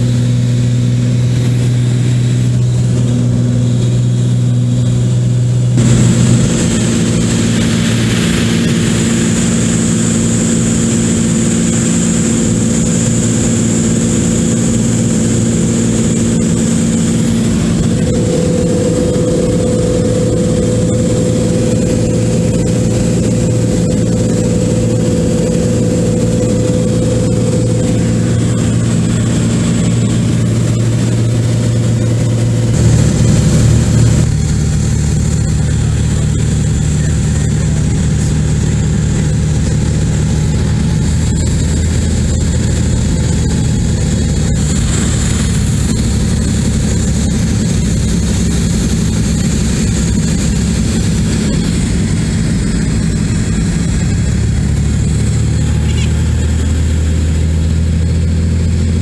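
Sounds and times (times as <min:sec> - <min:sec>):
airplane engine drone in cabin: 0:00.0 - 0:59.0.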